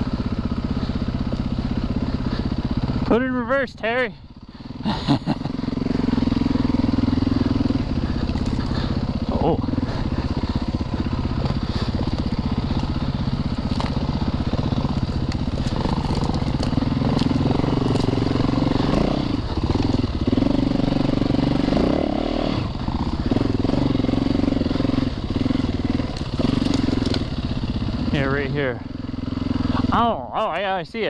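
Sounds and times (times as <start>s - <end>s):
dirt bike engine revving: 0.0s - 30.8s.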